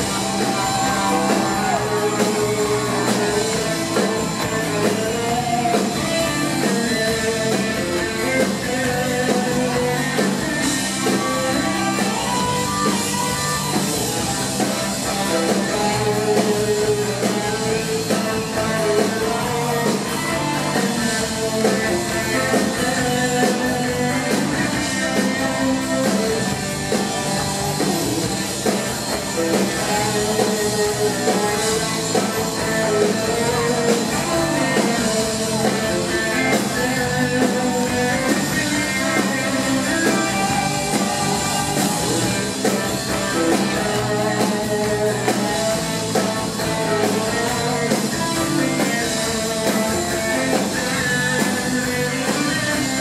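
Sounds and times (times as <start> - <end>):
drums: 0.0 - 53.0
electric guitars: 0.0 - 53.0
keyboard: 0.0 - 53.0.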